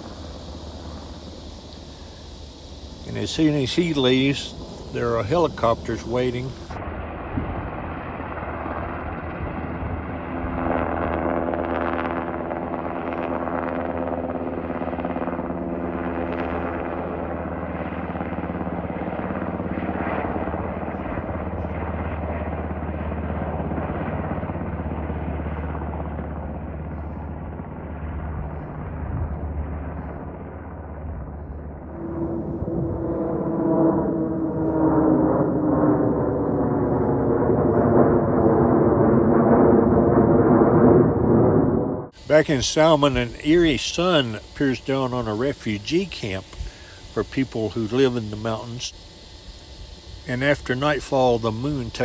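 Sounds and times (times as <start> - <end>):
helicopter rotor and engine: 0.0 - 52.0.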